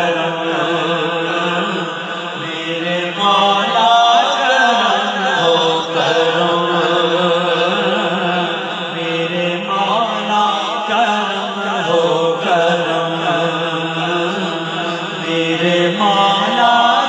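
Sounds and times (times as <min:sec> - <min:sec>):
man singing devotional hymn: 0:00.0 - 0:17.0.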